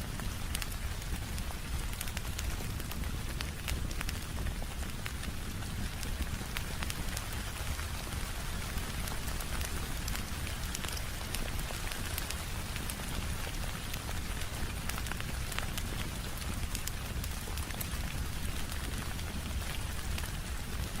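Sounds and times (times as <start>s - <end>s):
fireplace crackling and popping: 0.0s - 21.0s
steady rain falling: 0.0s - 21.0s.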